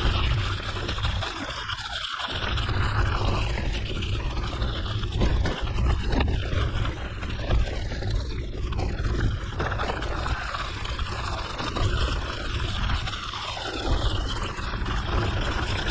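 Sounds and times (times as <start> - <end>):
wind rumbling on microphone: 0.0 - 15.9.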